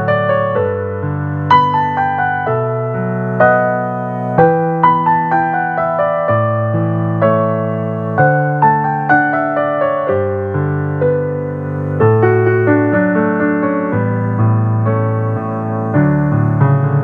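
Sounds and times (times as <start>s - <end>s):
solo piano piece: 0.0s - 17.0s.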